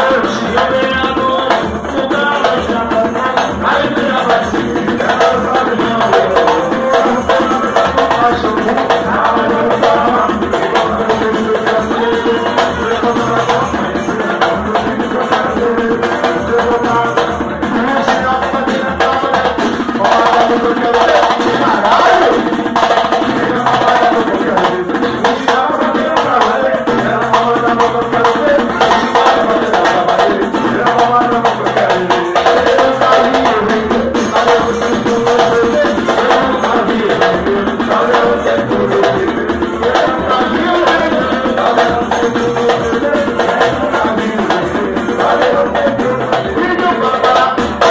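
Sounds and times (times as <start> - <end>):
held pitched lines: 0.0 - 47.9
percussion group drumming: 0.0 - 47.9.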